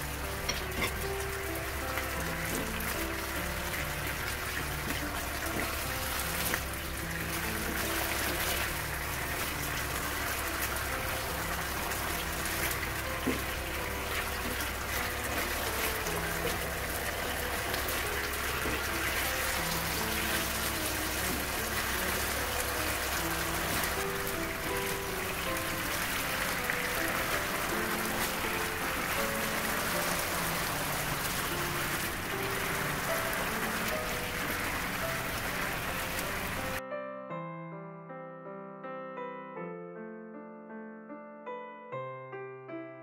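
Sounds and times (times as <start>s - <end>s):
broth sizzling in a frying pan: 0.0s - 36.8s
soft background music: 0.0s - 38.6s.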